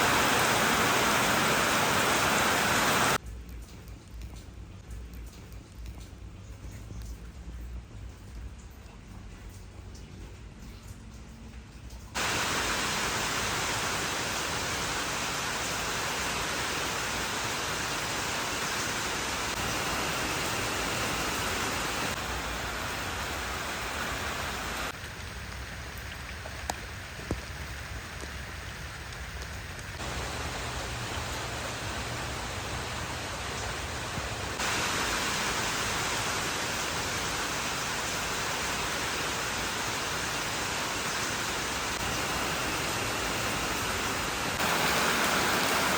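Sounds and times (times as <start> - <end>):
heavy rain falling: 0.0 - 3.2, 12.1 - 45.9.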